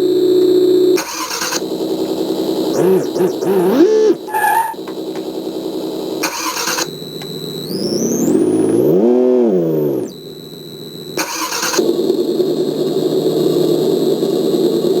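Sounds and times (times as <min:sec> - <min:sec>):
simulated engine idling and revving: 0:01.2 - 0:15.0.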